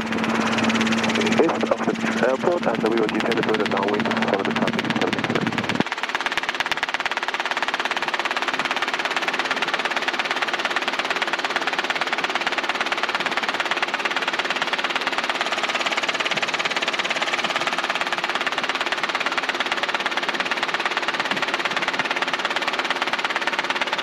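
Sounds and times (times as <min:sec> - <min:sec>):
helicopter engine and rotor noise: 0:00.0 - 0:24.0
helicopter rotor blade slap: 0:00.0 - 0:24.0.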